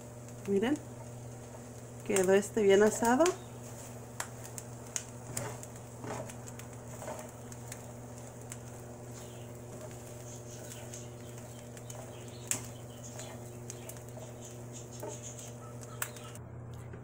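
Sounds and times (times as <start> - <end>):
spoon stirring kernels in a pan: 0.0 - 16.4
steady low hum: 0.0 - 17.0.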